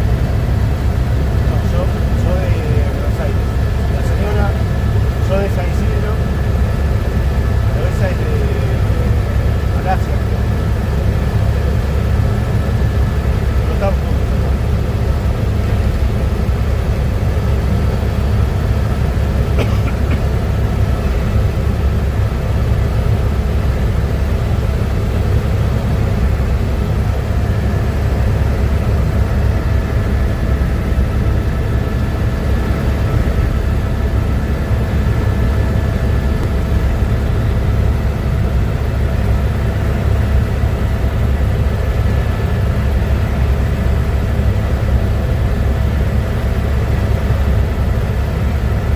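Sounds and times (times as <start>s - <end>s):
faint steady whines: 0.0s - 48.9s
helicopter rotor and turbine drone: 0.0s - 48.9s.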